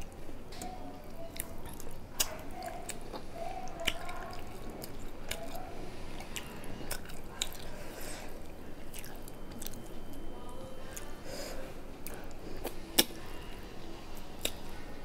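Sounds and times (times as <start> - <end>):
wet chewing: 0.0 - 14.9.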